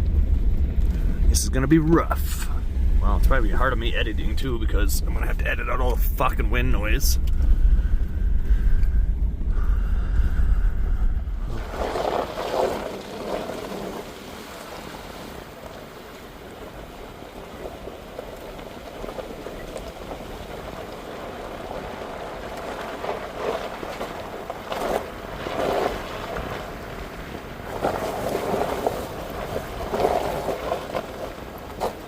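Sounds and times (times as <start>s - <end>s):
pickup truck driving: 0.0s - 32.0s
wind buffeting microphone: 0.0s - 32.0s.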